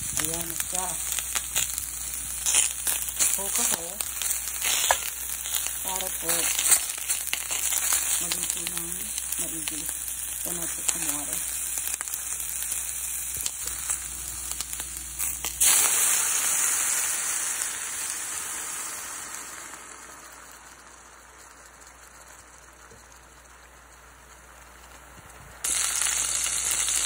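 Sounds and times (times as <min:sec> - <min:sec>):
loud hiss of boiling water: 0:00.0 - 0:24.0, 0:25.6 - 0:27.0
sausages sizzling in a pan: 0:00.0 - 0:27.0.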